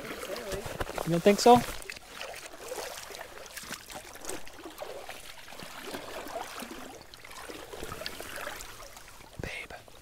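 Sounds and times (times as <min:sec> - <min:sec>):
stream water babbling: 0:00.0 - 0:10.0.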